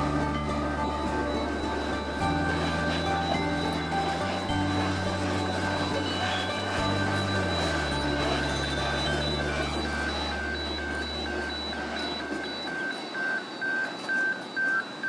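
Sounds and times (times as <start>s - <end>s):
low hum: 0.0s - 12.8s
electronic beeper short beeps: 0.0s - 15.0s.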